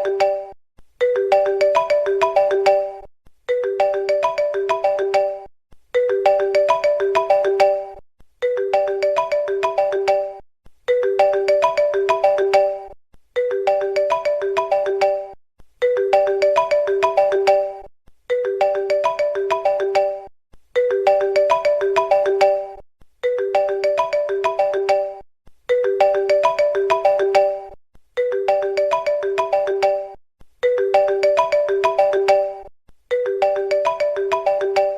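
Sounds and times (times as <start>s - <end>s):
phone ringtone melody: 0.0s - 34.9s.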